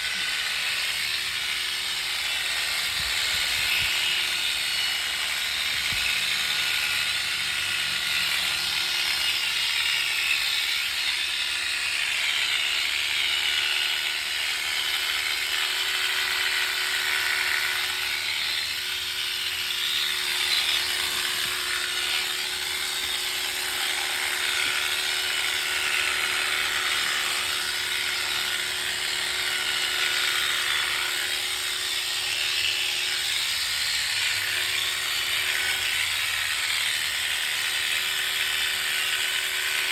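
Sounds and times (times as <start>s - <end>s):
electric clippers buzzing: 0.0s - 39.9s.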